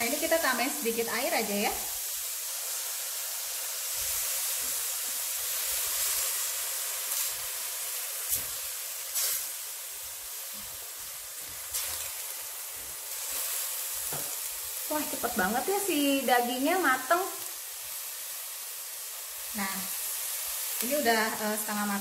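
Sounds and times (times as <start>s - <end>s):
water hissing on hot meat: 0.0s - 22.0s.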